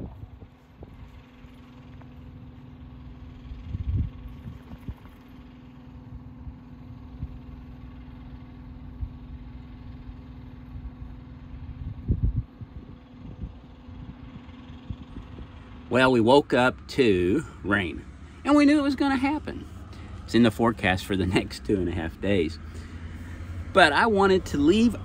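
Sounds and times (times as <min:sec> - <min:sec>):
idling engines hum: 0:00.0 - 0:25.0.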